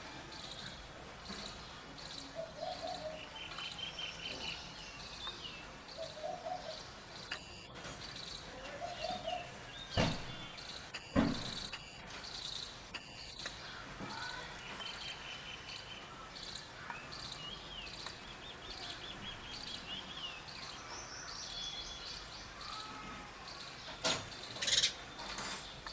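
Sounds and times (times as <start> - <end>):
small birds chirping: 0.0 - 25.9
gliding bird calls: 1.4 - 21.6, 24.4 - 25.1.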